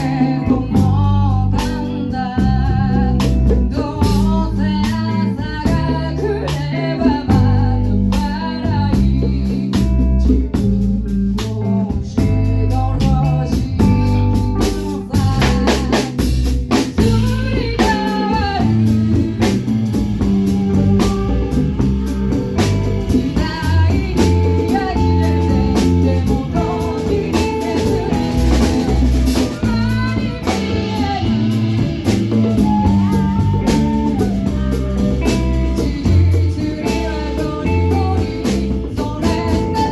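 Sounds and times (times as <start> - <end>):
instrumental band music: 0.0 - 39.9.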